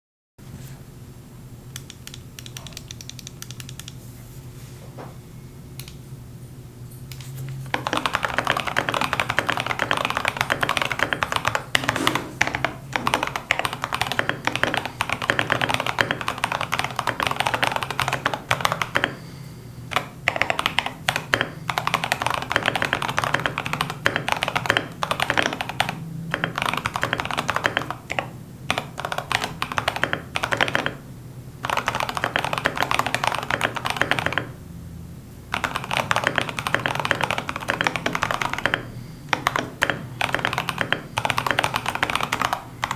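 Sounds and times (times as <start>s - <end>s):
mechanical keyboard typing: 1.8s - 4.0s, 7.1s - 31.0s, 31.6s - 34.6s, 35.5s - 42.9s.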